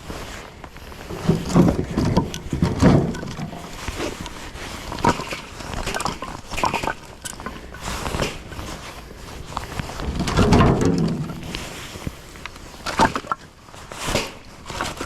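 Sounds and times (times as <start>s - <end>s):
wood scraping clatter: 0.0s - 15.0s
firewood knocking and clattering: 0.6s - 13.4s.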